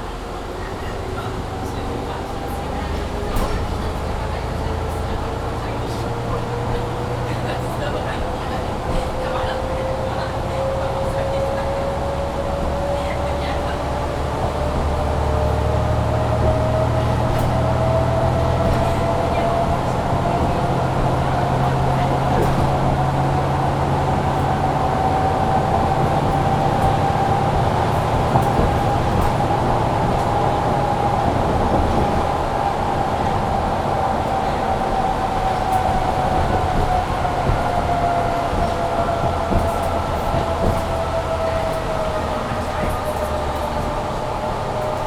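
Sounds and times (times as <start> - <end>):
bus engine drone: 0.0 - 45.0.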